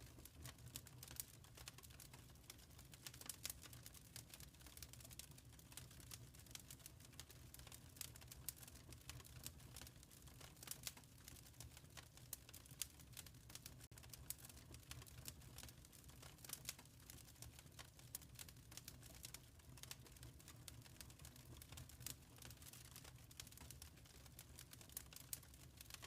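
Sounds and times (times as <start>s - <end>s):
soft fire rumble: 0.0s - 26.0s
wood fire crackling: 0.0s - 26.0s.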